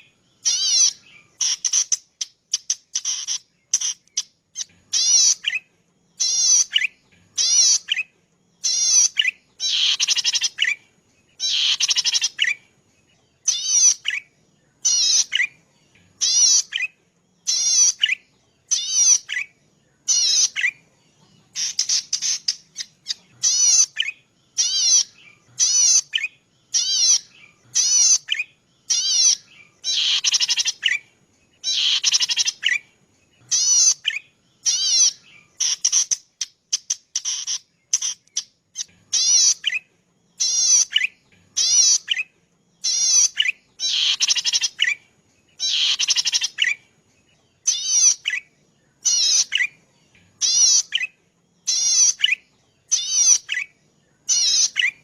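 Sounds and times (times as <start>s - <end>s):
small bird calling: 0.0s - 55.0s.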